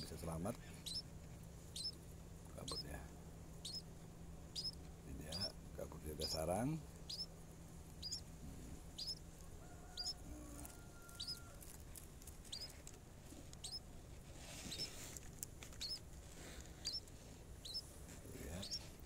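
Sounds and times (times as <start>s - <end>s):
small bird chirping: 0.7s - 1.1s, 1.7s - 2.9s, 3.6s - 12.9s, 13.5s - 13.9s, 14.5s - 16.1s, 16.7s - 19.0s.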